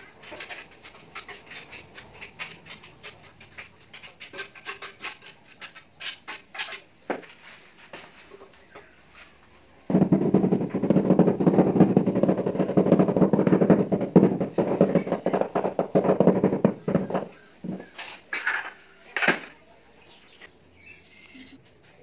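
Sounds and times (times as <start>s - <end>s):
tool scraping mortar on tile: 0.0s - 8.4s, 9.9s - 19.5s.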